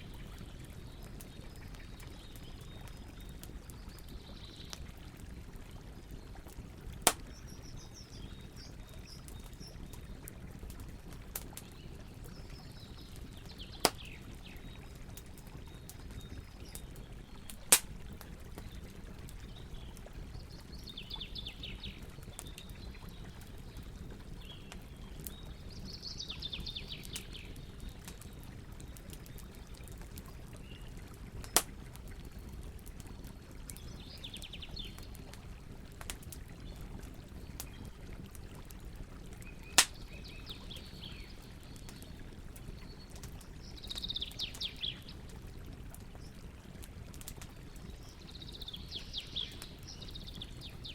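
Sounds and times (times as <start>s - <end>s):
campfire crackling and popping: 0.0s - 50.9s
low rumble of fire: 0.0s - 50.9s.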